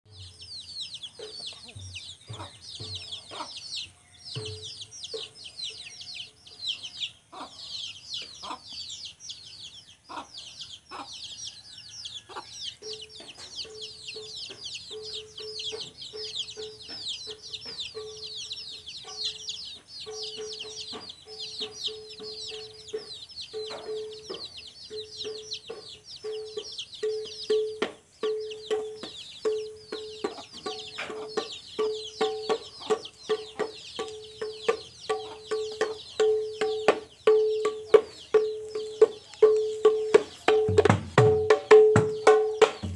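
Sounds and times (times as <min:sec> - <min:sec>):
chicken clucking: 0:00.1 - 0:42.9
chicks peeping: 0:00.1 - 0:42.9.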